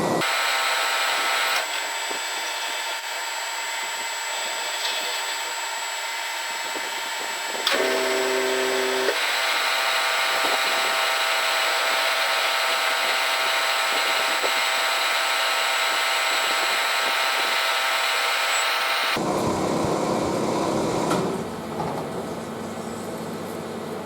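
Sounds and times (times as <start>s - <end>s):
lathe cutting metal with whine: 0.0s - 21.7s.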